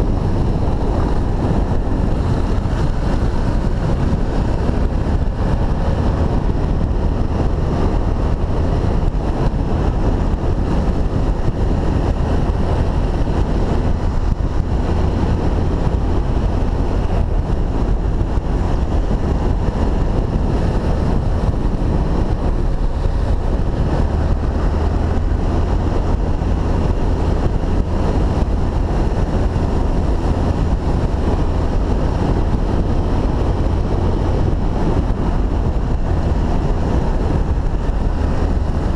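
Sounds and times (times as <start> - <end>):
motorcycle engine drone: 0.0 - 38.9
wind buffeting microphone: 0.0 - 38.9.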